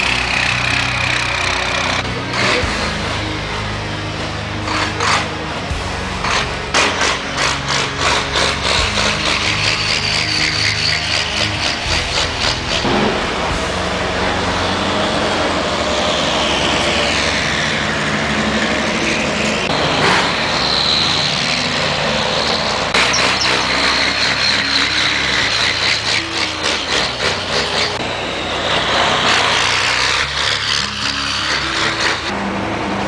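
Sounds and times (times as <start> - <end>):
truck diesel engines passing: 0.0 - 33.0.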